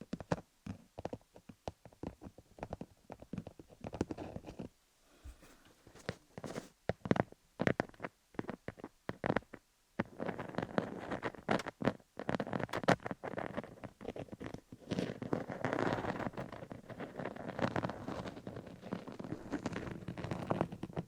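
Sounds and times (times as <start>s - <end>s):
fingers scratching microphone: 0.2s - 21.0s.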